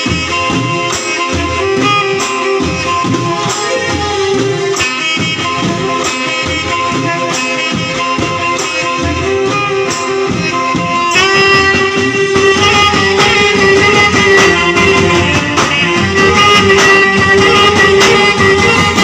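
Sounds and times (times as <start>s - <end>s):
live party band playing: 0.0s - 19.0s.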